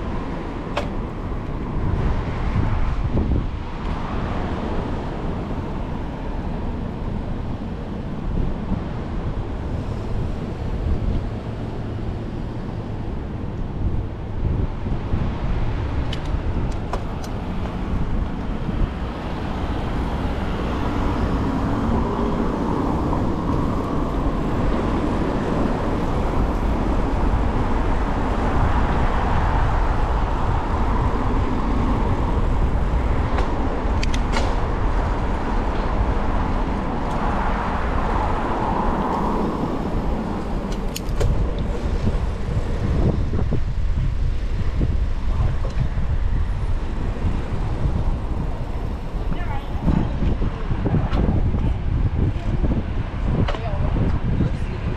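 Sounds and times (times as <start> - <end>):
car traffic rushing: 0.0 - 54.9.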